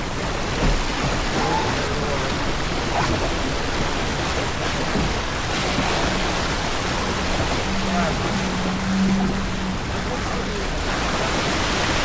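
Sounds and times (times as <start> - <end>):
water washing along boat hull: 0.0 - 12.0.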